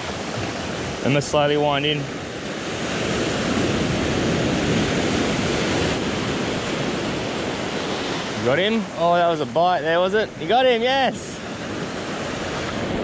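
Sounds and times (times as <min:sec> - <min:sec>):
surf washing up a beach: 0:00.0 - 0:13.0.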